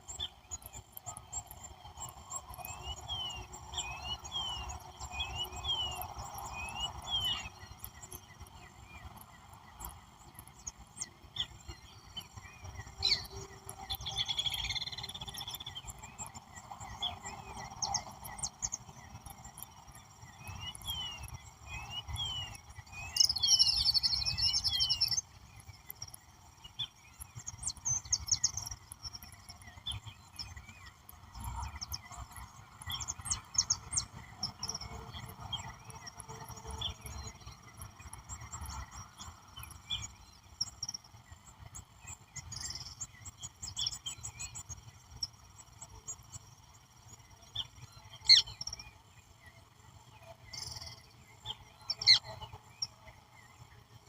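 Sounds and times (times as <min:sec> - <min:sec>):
birds chirping and trilling: 0:00.0 - 0:54.0
insect chorus: 0:00.0 - 0:54.0.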